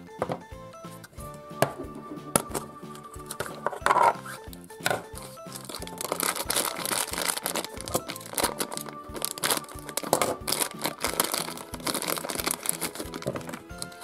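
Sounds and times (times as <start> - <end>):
background music with steady beat: 0.0 - 14.0
plastic wrapper crinkling: 2.5 - 14.0.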